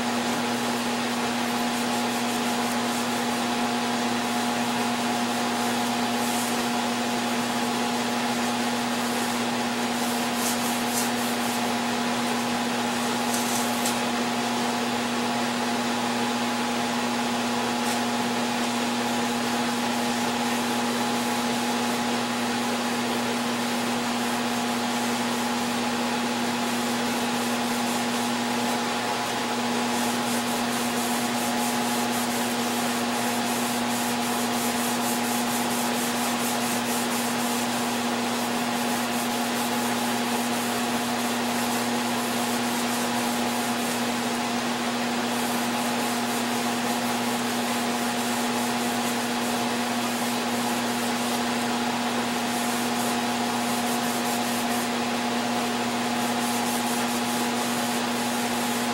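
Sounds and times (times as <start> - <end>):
sandpaper hissing on wood: 0.1 - 14.1, 17.7 - 22.0, 23.6 - 58.9.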